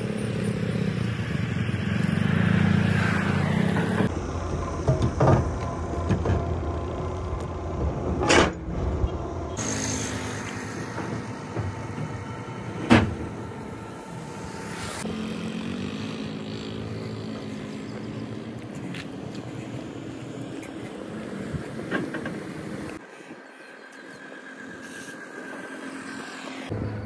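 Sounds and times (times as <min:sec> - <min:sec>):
steady engine hum: 0:00.0 - 0:27.0.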